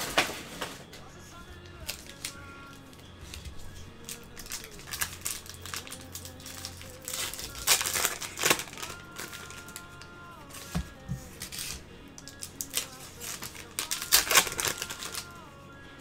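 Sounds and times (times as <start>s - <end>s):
foil wrapper crinkling: 0.0s - 15.6s
quiet background music: 0.0s - 16.0s.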